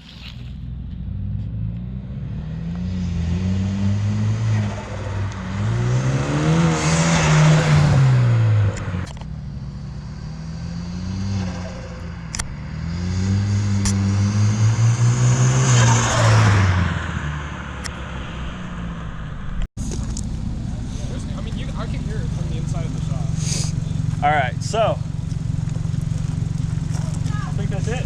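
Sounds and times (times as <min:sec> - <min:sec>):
car engine accelerating hard: 0:00.8 - 0:28.0.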